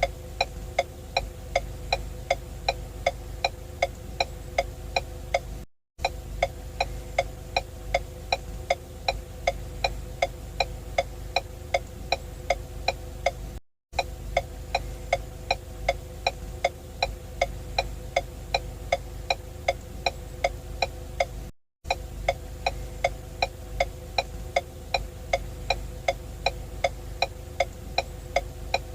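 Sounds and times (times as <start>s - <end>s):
steady low hum: 0.0s - 28.9s
turn signal ticking: 0.0s - 28.9s.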